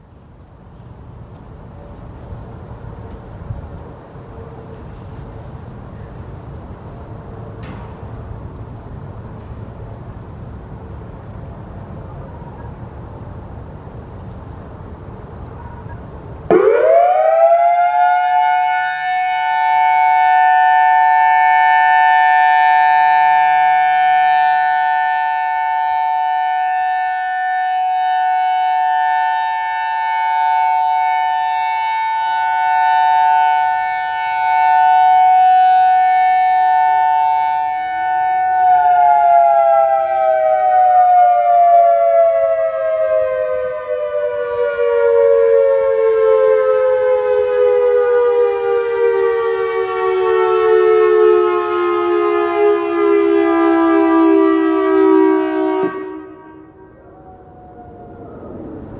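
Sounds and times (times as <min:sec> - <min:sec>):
dual-tone warning siren: 0:01.7 - 0:08.6, 0:10.8 - 0:13.4, 0:14.8 - 0:58.9.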